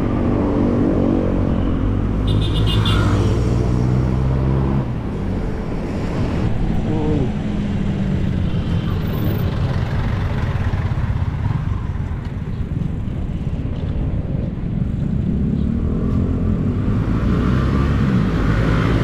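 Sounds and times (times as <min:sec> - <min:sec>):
motor traffic noise: 0:00.0 - 0:19.0
wind rumbling on microphone: 0:03.6 - 0:19.0.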